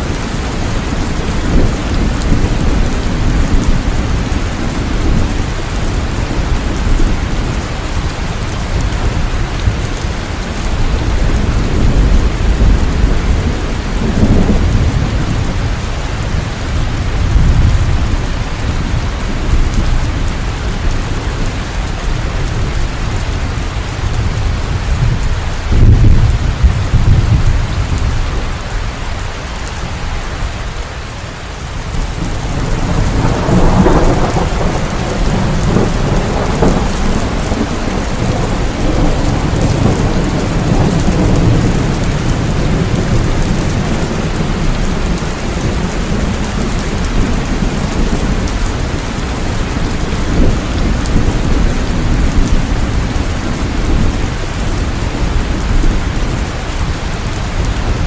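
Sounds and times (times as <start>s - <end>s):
thunder rumbling: 0.0s - 30.7s, 31.7s - 58.0s
heavy rain: 0.0s - 58.0s.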